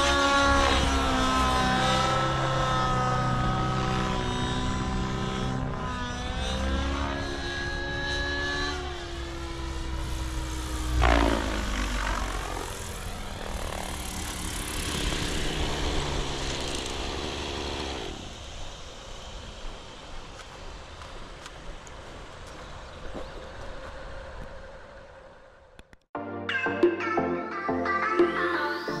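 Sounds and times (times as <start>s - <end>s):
model helicopter engine and rotor whine: 0.0s - 23.4s.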